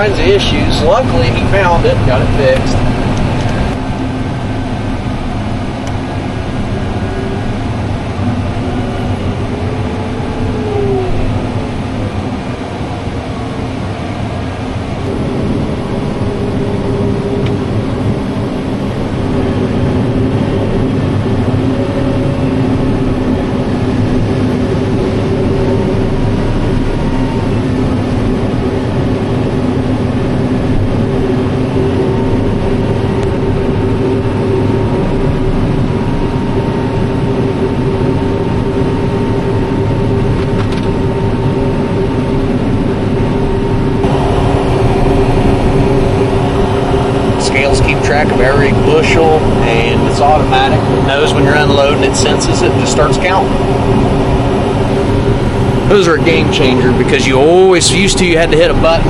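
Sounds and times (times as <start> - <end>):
diesel machinery engine drone: 0.0 - 59.0.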